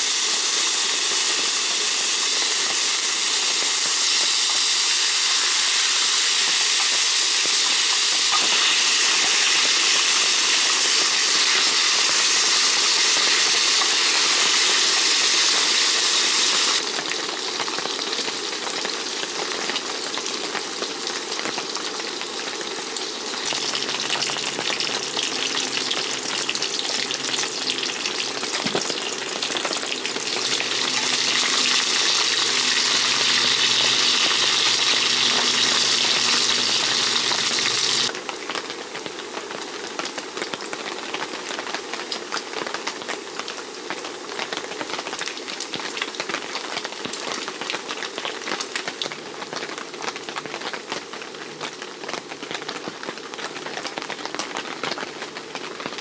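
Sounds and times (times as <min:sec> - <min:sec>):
meat sizzling on a griddle: 0:00.0 - 0:50.8.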